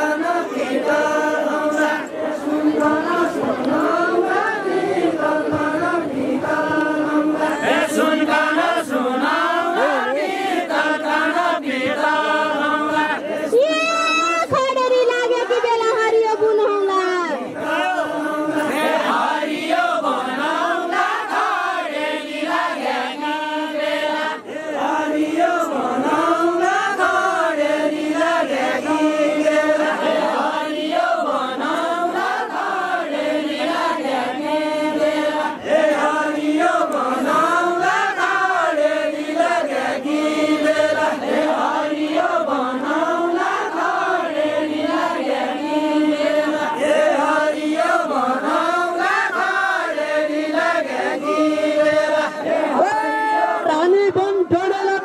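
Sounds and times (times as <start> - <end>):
group singing unaccompanied: 0.0 - 54.2.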